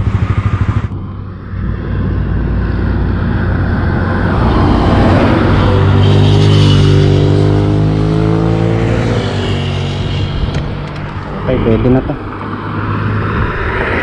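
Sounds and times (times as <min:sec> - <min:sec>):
scooter engine accelerating: 0:00.0 - 0:11.4
rushing wind noise: 0:00.0 - 0:14.0.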